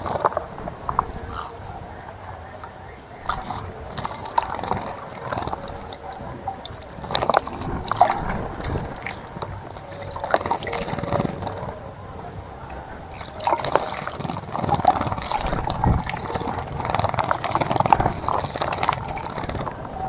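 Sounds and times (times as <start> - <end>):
bird splashing water: 0.0 - 20.0.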